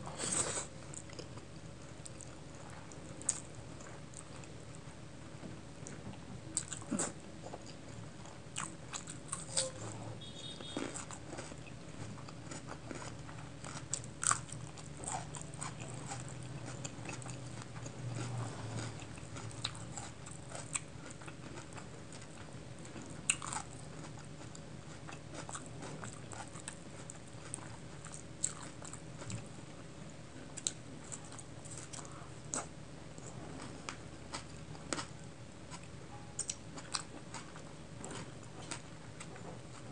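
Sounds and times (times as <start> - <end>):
faint low hum: 0.0 - 39.9
chewing: 0.1 - 4.8, 5.8 - 9.8, 10.4 - 29.5, 30.5 - 39.9.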